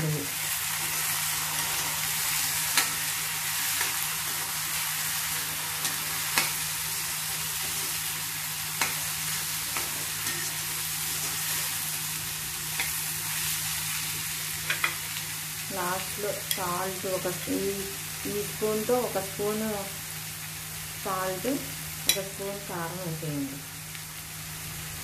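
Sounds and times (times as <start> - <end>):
beans sizzling in a pan: 0.0 - 25.0.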